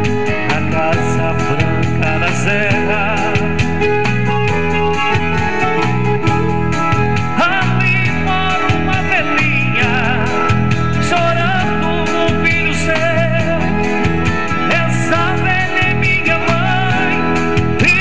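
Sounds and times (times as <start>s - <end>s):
song on electronic keyboard: 0.0s - 18.0s.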